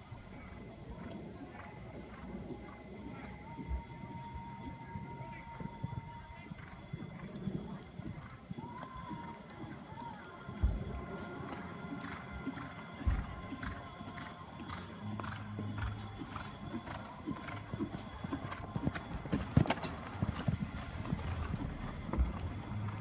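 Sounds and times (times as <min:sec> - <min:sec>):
horse hoofbeats on sand: 0:01.6 - 0:23.0.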